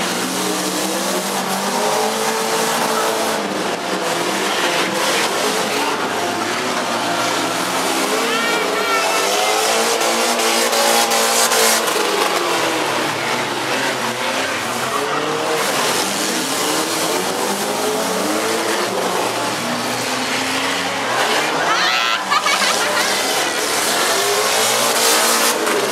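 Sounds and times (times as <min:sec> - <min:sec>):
car engines revving: 0:00.0 - 0:25.9
tyres spinning and squealing: 0:04.6 - 0:25.9.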